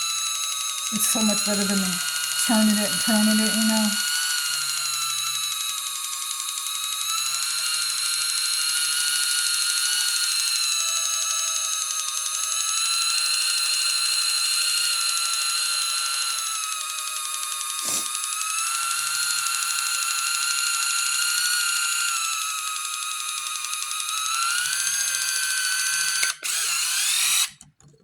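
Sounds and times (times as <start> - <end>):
electric can opener whining: 0.0 - 28.0.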